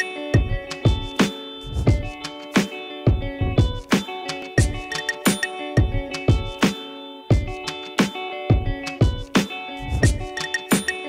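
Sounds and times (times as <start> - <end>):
guitar: 0.0 - 11.0
steady drum beat: 0.0 - 11.0.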